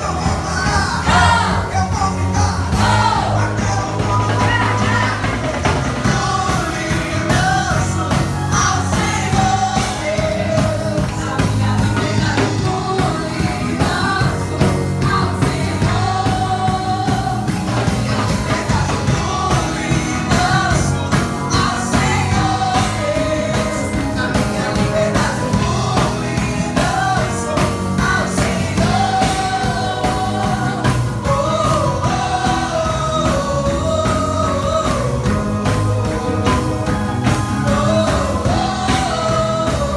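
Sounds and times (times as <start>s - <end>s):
rock music with lead vocal: 0.0s - 39.9s.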